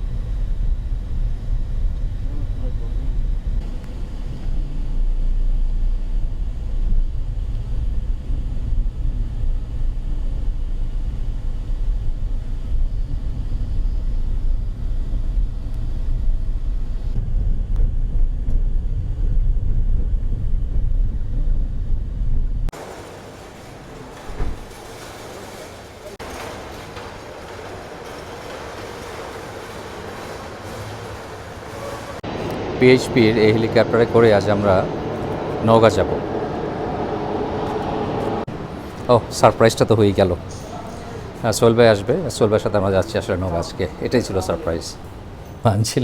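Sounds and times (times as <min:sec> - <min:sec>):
vehicle rumble: 0:00.0 - 0:46.0.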